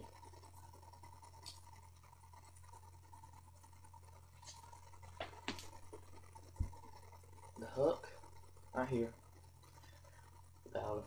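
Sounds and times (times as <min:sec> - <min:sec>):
faint ticks: 0:00.0 - 0:11.0
steady low hum: 0:00.0 - 0:11.0.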